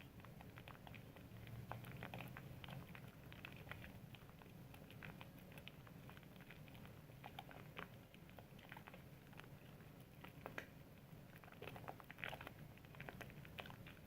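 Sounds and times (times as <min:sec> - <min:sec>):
low steady hum: 0:00.0 - 0:14.0
soap foam crackling and squishing: 0:00.0 - 0:14.0.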